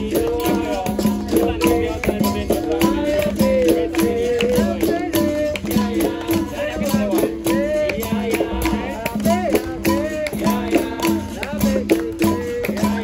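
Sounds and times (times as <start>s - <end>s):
berimbau struck in rhythm: 0.0s - 13.0s
caxixi rattle shaking: 0.0s - 13.0s.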